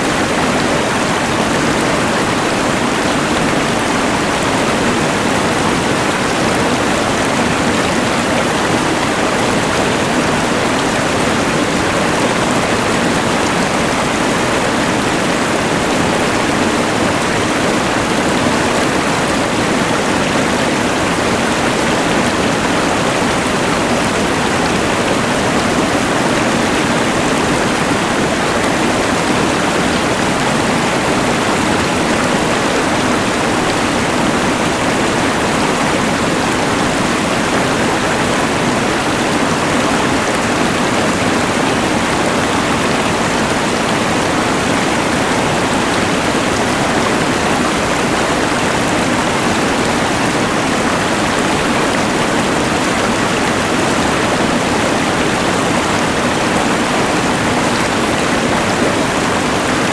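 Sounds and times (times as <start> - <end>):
mountain river rushing: 0.0 - 59.9.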